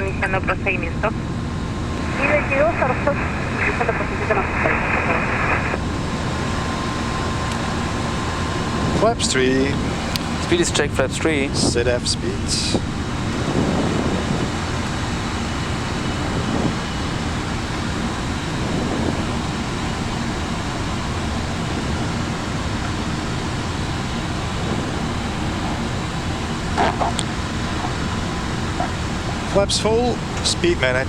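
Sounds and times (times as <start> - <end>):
airflow rush: 1.2 - 31.0
air-conditioning hiss: 1.6 - 31.0.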